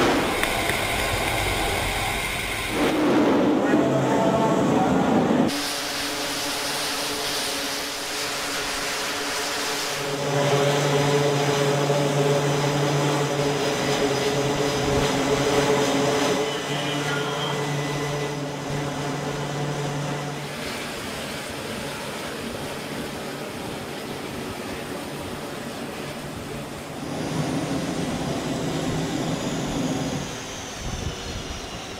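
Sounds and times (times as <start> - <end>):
jet engines running: 0.0 - 31.9.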